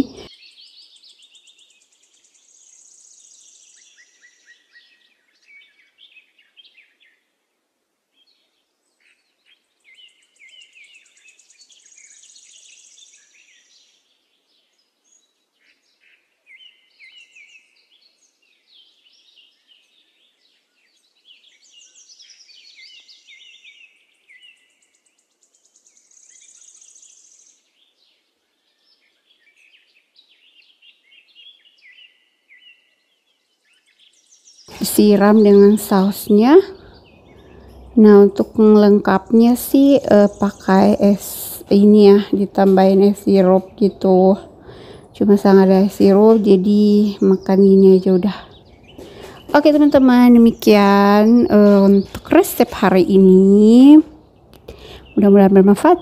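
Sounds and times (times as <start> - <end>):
faint bird song: 0.0 - 56.0.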